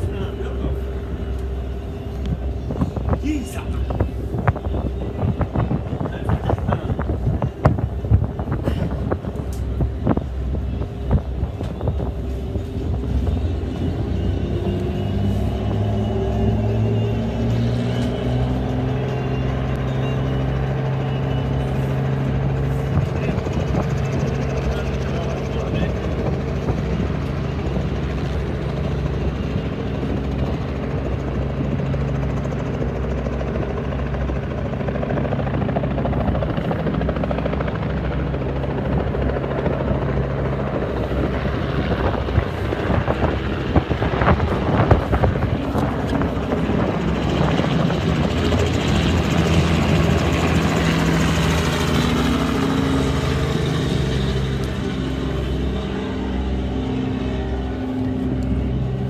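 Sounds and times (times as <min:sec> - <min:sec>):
engine droning: 0:00.0 - 0:59.0.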